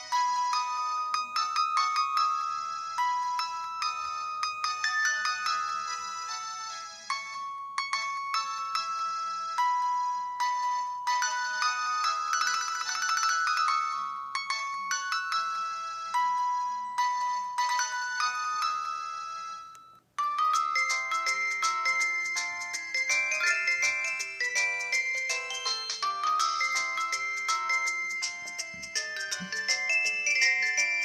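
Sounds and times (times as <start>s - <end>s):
mobile phone ringtone: 0.0s - 31.0s.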